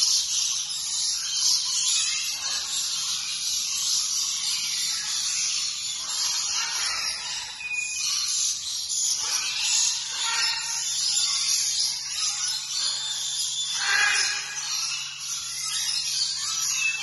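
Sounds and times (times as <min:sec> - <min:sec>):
lorikeets chattering: 0:00.0 - 0:17.0.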